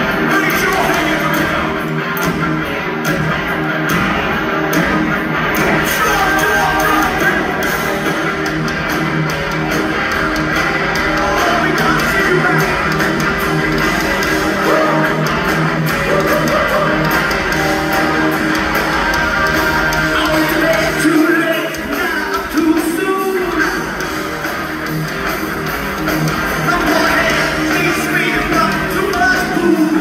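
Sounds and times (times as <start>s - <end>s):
bass guitar: 0.0s - 30.0s
drums: 0.0s - 30.0s
electric guitars: 0.0s - 30.0s.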